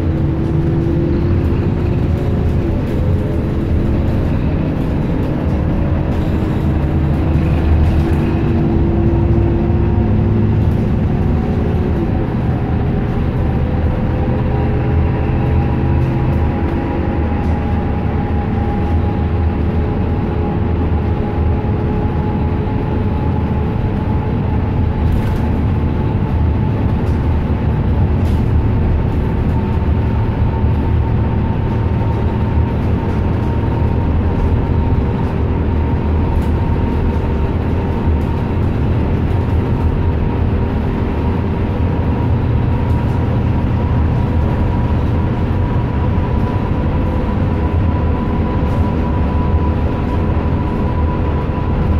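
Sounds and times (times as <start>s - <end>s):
bus engine and tyres drone: 0.0s - 51.9s.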